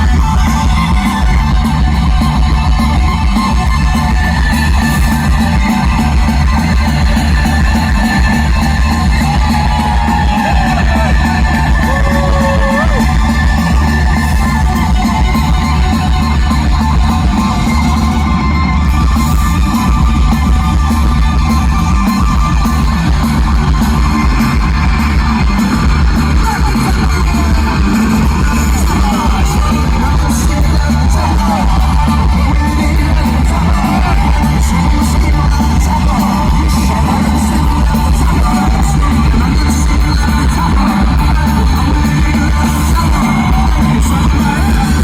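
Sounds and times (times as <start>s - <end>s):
electric guitar: 0.0s - 45.0s
heavy steady bass: 0.0s - 45.0s
live rock band playing: 0.0s - 45.0s.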